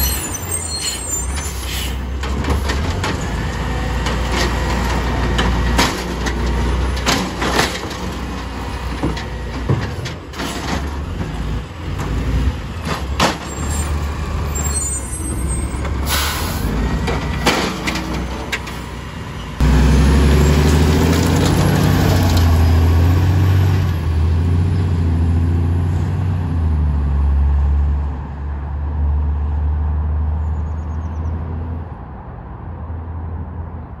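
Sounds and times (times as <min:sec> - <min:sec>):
truck engine: 0:00.0 - 0:33.8.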